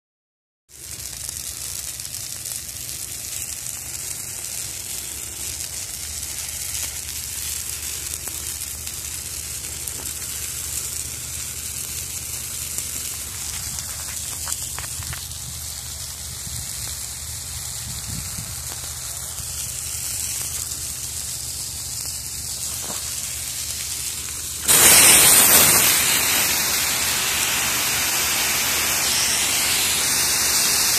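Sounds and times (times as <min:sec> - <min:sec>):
burning brush crackling: 0:00.7 - 0:30.9
hose water jet spraying: 0:00.8 - 0:30.9.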